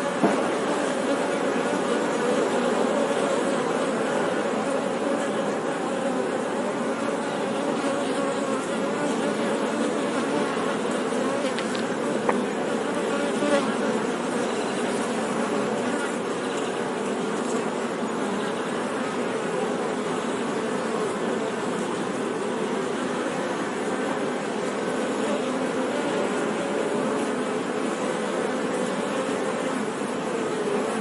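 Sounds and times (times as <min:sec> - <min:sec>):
honey bees buzzing: 0:00.0 - 0:31.0.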